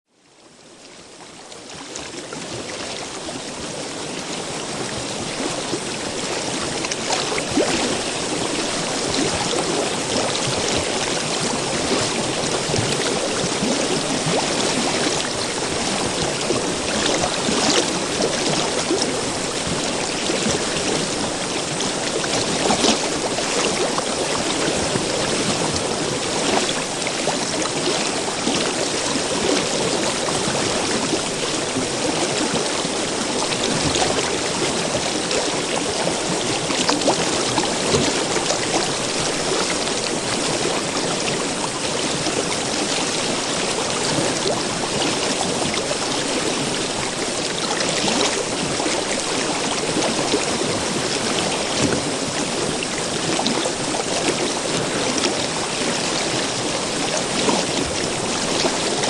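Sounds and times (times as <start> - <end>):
river water flowing: 0.2 - 59.0.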